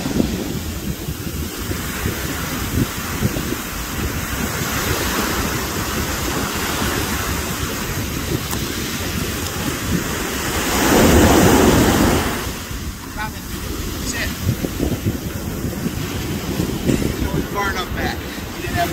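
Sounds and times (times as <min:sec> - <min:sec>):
small waves on sandy beach: 0:00.0 - 0:18.9
wind buffeting microphone: 0:00.0 - 0:18.9.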